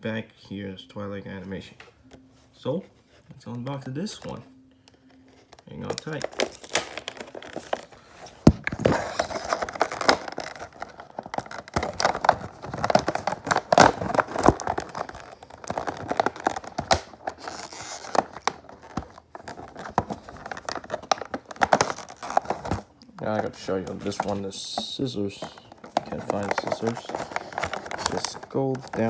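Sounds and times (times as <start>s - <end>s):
packaging tearing and crinkling: 5.4s - 29.0s.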